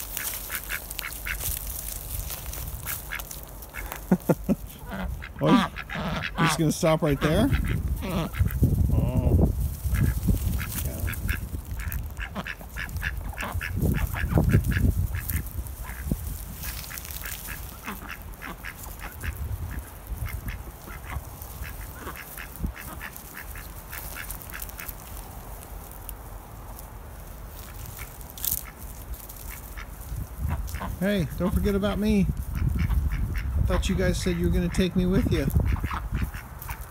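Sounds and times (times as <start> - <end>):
ducks quacking softly: 0.1 - 25.2, 27.5 - 36.9.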